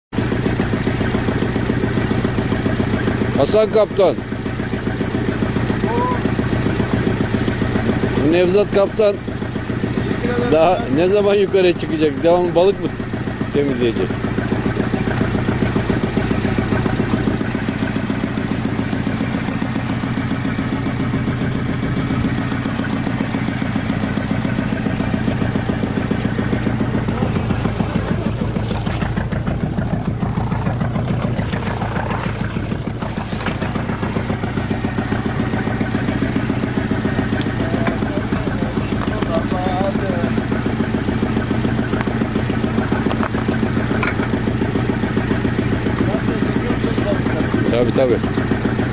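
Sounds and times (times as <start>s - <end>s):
boat engine running steadily: 0.1s - 48.9s.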